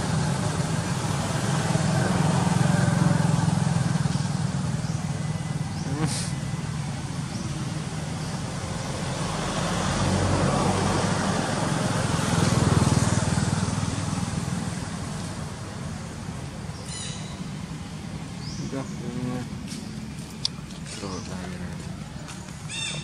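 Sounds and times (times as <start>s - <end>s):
vehicle passing by: 0.0s - 23.0s.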